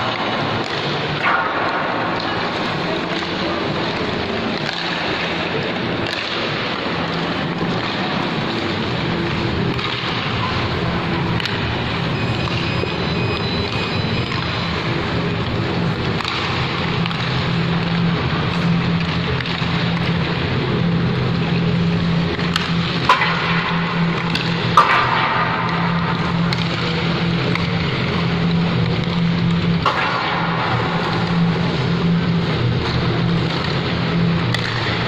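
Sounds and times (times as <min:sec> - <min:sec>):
indoor ice rink ambience: 0:00.0 - 0:35.0
low hum: 0:00.0 - 0:35.0.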